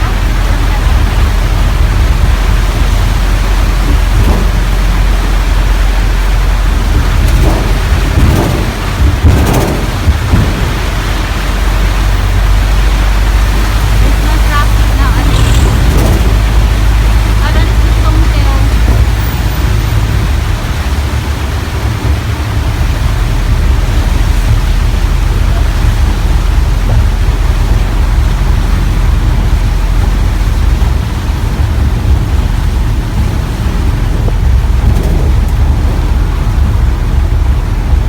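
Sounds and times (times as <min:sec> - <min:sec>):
heavy rain: 0:00.0 - 0:38.0
vehicle and road noise: 0:00.0 - 0:38.0
wind buffeting microphone: 0:00.0 - 0:38.0.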